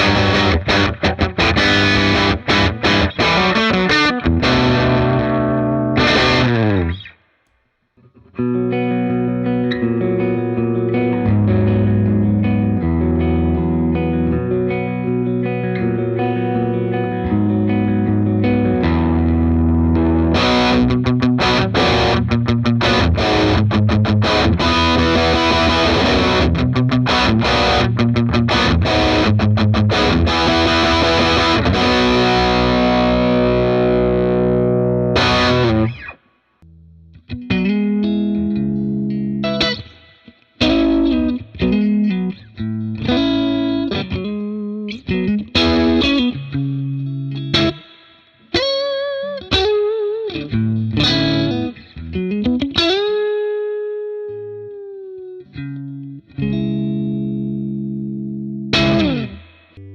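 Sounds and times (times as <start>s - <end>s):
distorted electric guitar: 0.0s - 7.3s, 8.0s - 59.9s.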